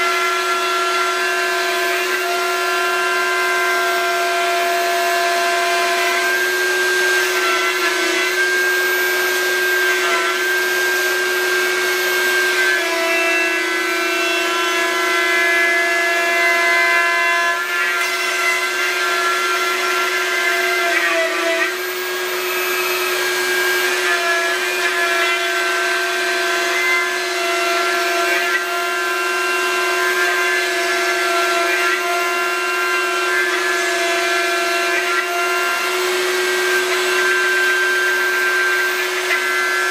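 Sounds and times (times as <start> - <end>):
dust-extraction vacuum running: 0.0 - 15.3, 17.6 - 39.9
end mill rasping into wood: 0.0 - 39.9
router spindle whine: 0.0 - 39.9.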